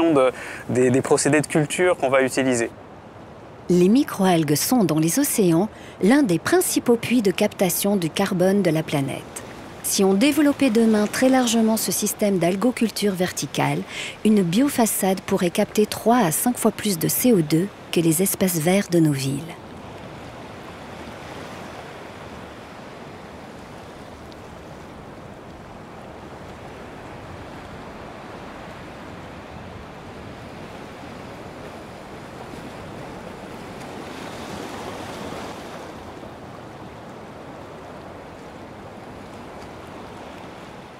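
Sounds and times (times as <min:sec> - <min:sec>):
surf washing against rocks: 0:06.4 - 0:18.0, 0:19.7 - 0:40.9.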